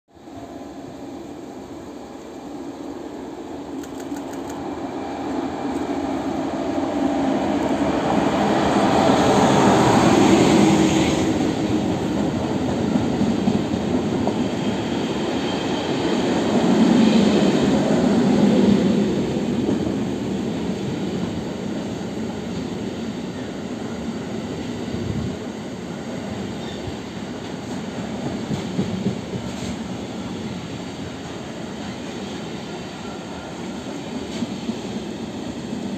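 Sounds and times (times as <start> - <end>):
electric locomotive passing: 0.1 - 35.9.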